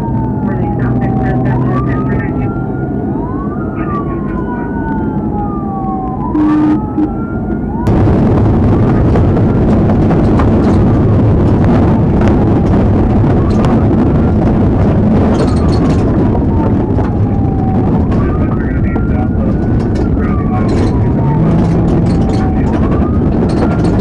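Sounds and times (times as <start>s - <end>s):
car engine and road noise: 0.0s - 24.0s
police sirens wailing: 0.0s - 24.0s.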